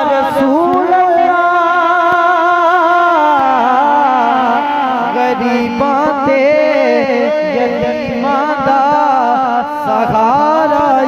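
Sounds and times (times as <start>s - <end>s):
man singing through loudspeaker: 0.0s - 11.0s.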